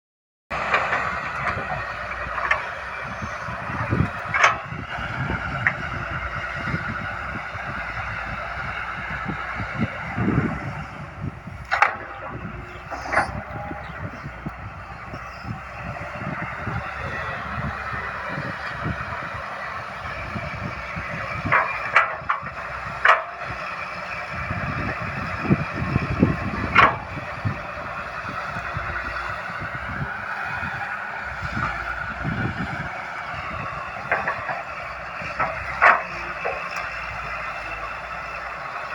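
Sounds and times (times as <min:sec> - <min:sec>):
excavator diesel engine running: 0:00.5 - 0:38.9.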